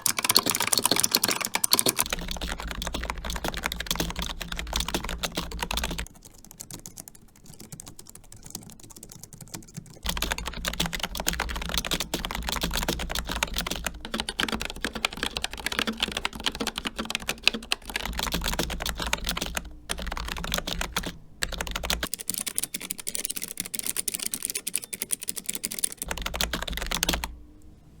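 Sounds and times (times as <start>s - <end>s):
rapid keyboard typing: 0.0s - 27.4s.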